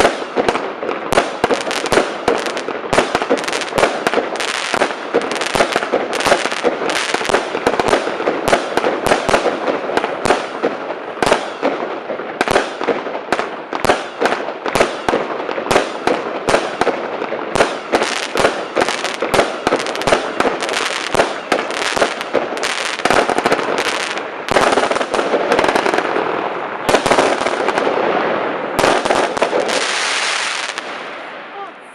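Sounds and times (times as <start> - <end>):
fireworks crackling: 0.0 - 31.9.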